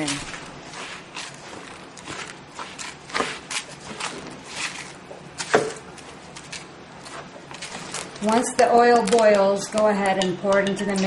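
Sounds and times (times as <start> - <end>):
stirring food in a bowl: 0.0 - 11.0.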